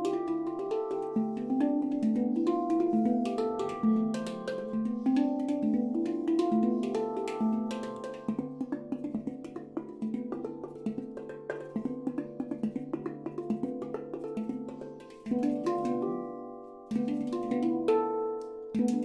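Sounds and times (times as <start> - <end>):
handpan notes ringing: 0.0 - 19.0.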